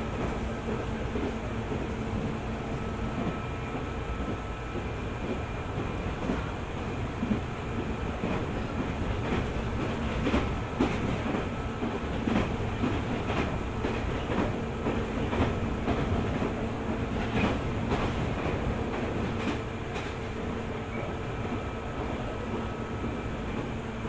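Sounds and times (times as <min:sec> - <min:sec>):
electric train rumble: 0:00.0 - 0:24.0.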